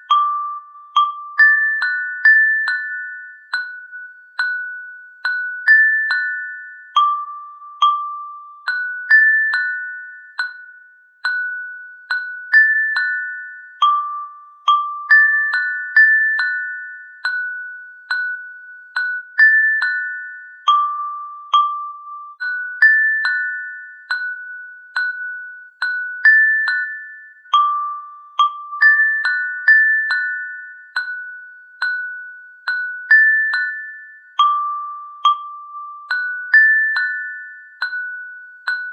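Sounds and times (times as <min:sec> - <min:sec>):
glockenspiel tune: 0:00.0 - 0:38.9.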